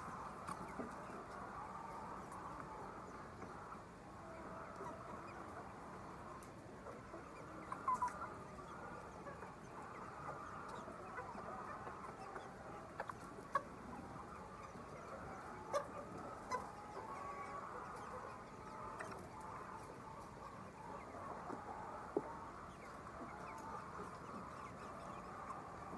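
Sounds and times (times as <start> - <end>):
chickens clucking and chirping: 0.0 - 25.9.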